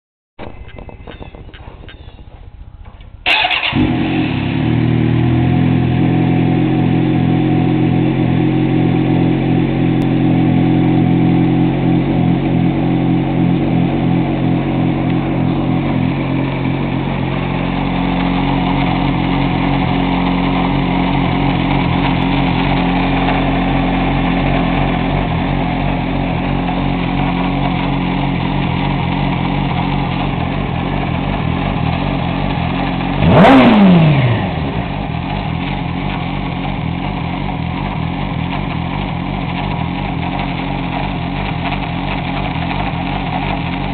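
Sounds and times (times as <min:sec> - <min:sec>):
engine grinding noise: 0:00.4 - 0:43.9
vehicle engine idling: 0:00.4 - 0:43.9.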